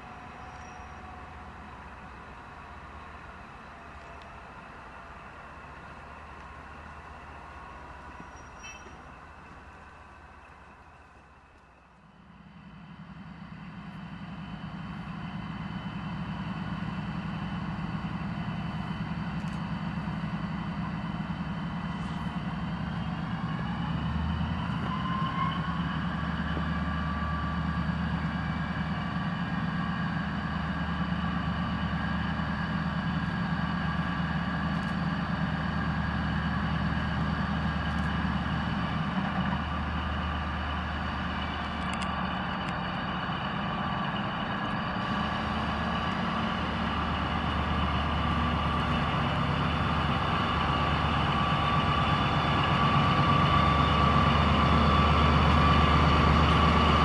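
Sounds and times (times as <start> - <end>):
diesel locomotive engine revving: 0.0 - 57.0.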